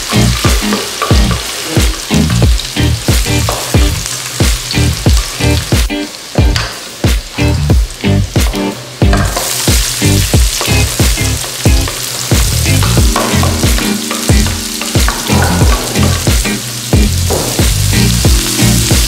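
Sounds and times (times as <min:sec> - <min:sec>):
background music with steady beat: 0:00.0 - 0:19.0
onions sizzling in hot oil: 0:00.0 - 0:19.0.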